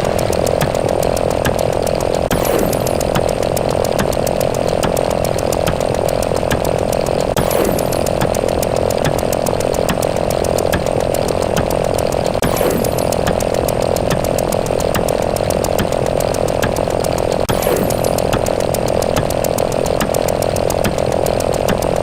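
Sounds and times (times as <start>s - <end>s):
rapid counter clicks: 0.0s - 22.0s.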